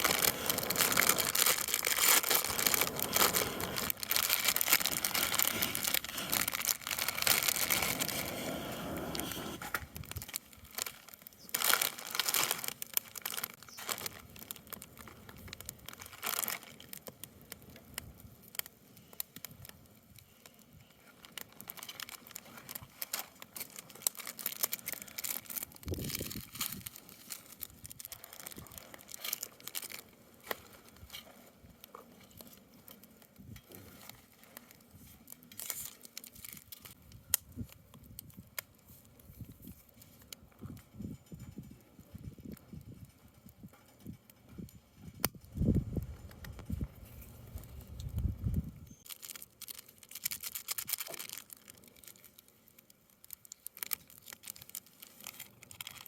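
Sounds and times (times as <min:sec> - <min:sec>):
crinkling rustling handling noise: 0:00.0 - 0:43.7, 0:48.8 - 0:56.0
light clicks and crackles: 0:00.0 - 0:56.0.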